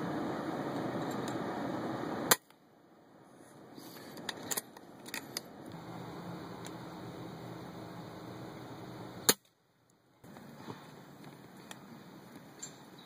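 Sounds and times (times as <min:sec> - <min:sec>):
background noise: 0:00.0 - 0:13.0.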